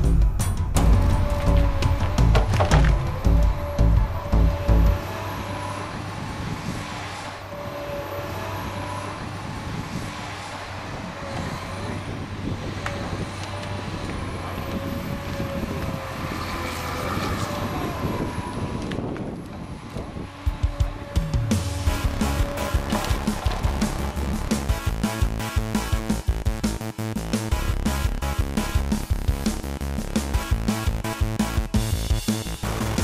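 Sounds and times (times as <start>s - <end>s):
diesel engine and hydraulics whining: 0.0s - 33.0s.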